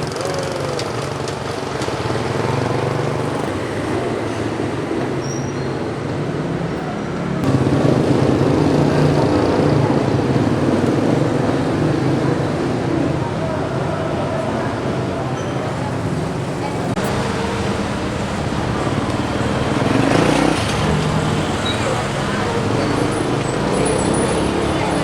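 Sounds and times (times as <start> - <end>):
street traffic engines: 0.0 - 25.0.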